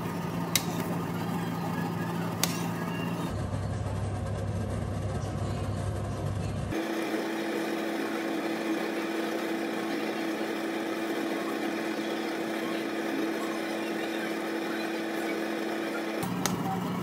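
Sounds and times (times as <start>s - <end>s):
kitchen fan humming: 0.0s - 17.0s.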